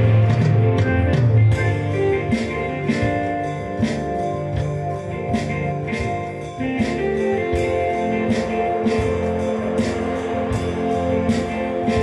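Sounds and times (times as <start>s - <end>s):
guitar over sustained chords: 0.0s - 12.0s
percussion beat: 0.0s - 12.0s.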